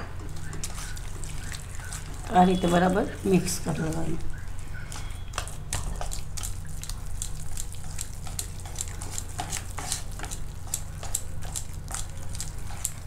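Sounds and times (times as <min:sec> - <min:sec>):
steady low hum: 0:00.0 - 0:13.0
whisk beating batter: 0:00.3 - 0:13.0.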